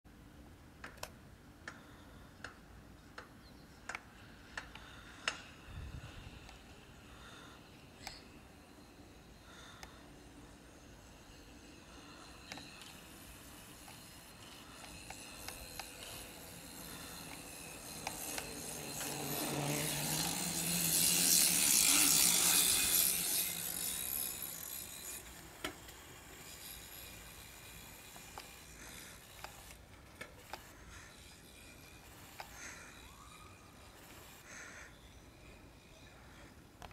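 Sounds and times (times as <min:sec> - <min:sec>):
bicycle freewheel ticking: 0:03.9 - 0:36.7
bicycle tyre rolling on asphalt: 0:04.8 - 0:07.6, 0:08.8 - 0:36.5.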